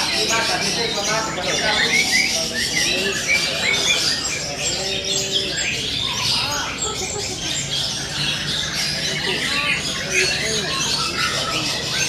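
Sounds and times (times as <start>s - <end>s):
other birdsong: 0.0s - 12.0s.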